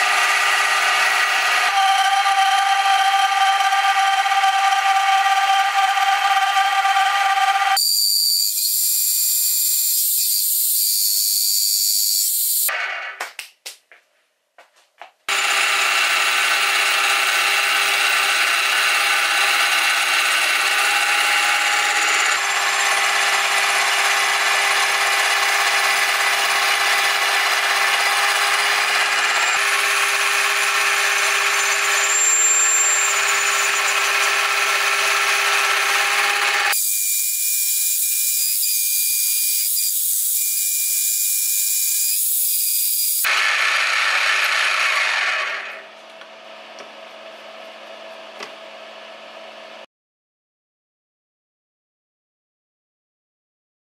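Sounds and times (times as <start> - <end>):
milling machine whine: 0.0 - 12.7, 15.3 - 45.9.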